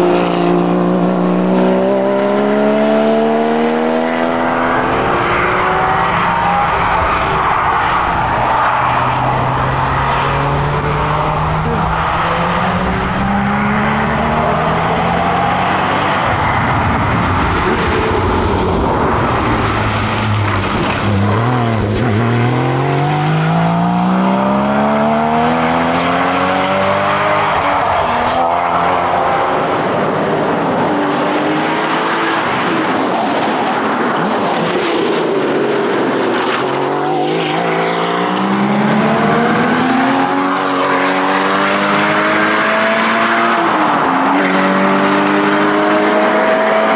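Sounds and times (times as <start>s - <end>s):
car engine revving hard: 0.0s - 7.4s, 8.0s - 46.9s.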